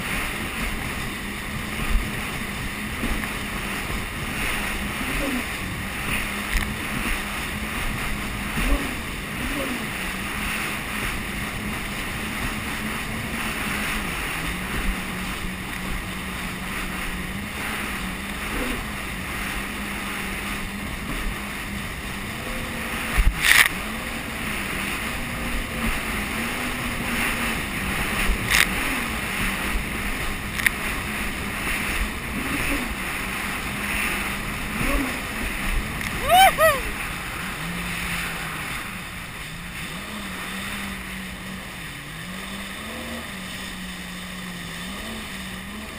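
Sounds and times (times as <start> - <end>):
jet ski engine running: 0.0 - 45.9
rush of wind and water: 0.0 - 45.9.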